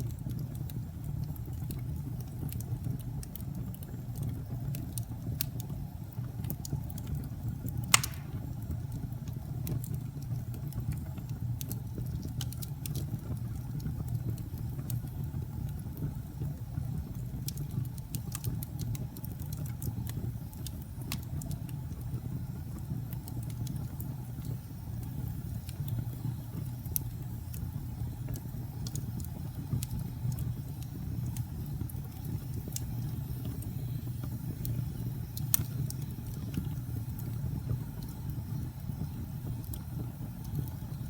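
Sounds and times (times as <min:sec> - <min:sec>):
fire crackling and popping: 0:00.0 - 0:41.0
fire roaring: 0:06.0 - 0:41.0.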